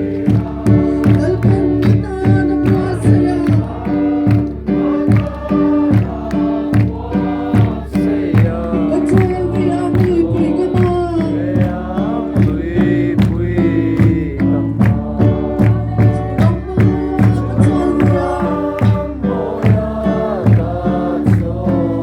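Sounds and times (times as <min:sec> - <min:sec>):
group singing a hymn: 0:00.0 - 0:22.0
keyboard or band backing: 0:00.0 - 0:22.0.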